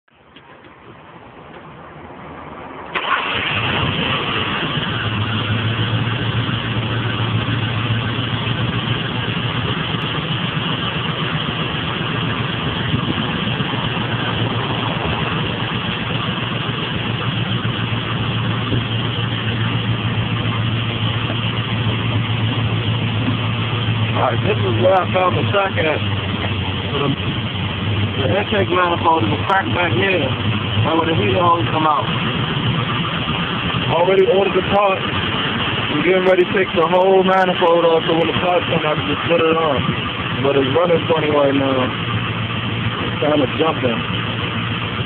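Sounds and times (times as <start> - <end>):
car engine idling unevenly: 2.8 - 45.0.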